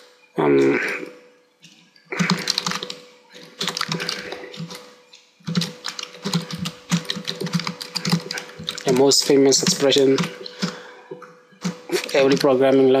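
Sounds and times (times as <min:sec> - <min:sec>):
computer keyboard typing: 0:02.1 - 0:13.0.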